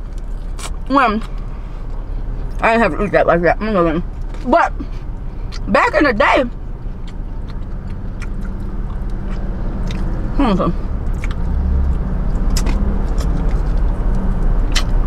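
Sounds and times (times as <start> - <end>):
chewing and biting sounds: 0.0 - 2.6, 4.1 - 5.7, 6.5 - 15.0
low car rumble: 0.0 - 15.0.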